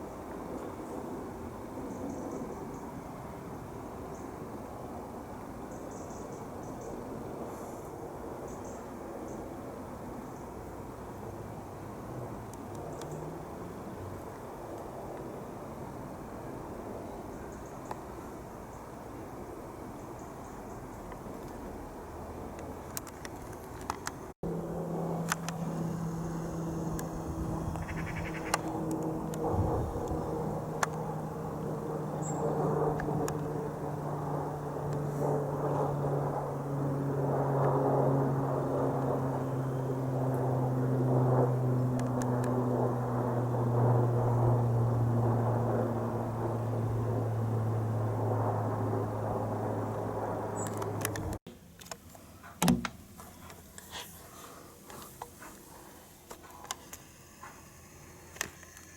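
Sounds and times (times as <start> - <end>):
turboprop plane flying overhead: 0.0 - 51.5.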